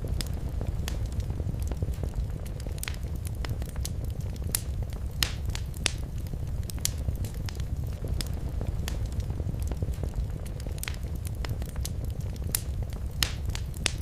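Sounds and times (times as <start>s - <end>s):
sharp fire snaps and pops: 0.0s - 14.0s
wood fire crackling: 0.0s - 14.0s.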